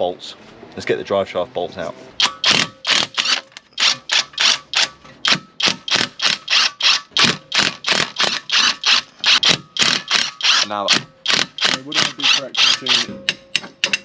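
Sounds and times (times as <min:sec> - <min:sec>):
ratchet wrench clicking: 0:02.2 - 0:14.0.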